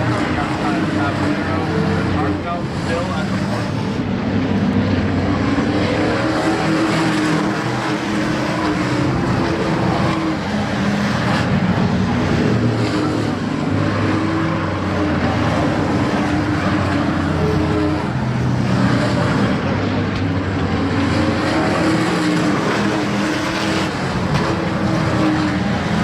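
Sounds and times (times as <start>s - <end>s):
race truck engines: 0.0s - 26.0s.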